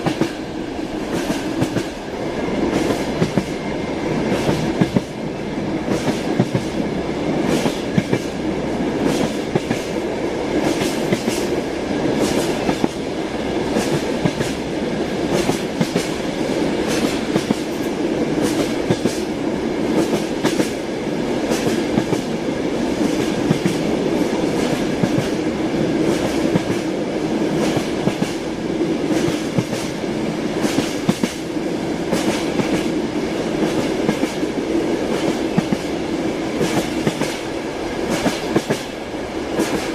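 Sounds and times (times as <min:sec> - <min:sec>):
train wagons rumbling: 0:00.0 - 0:39.9.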